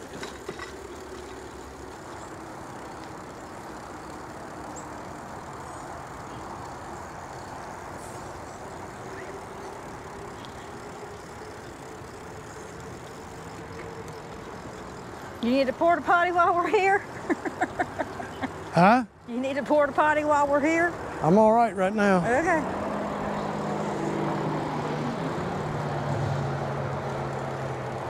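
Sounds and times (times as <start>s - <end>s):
bicycle tyres rolling on pavement: 0.0s - 28.0s.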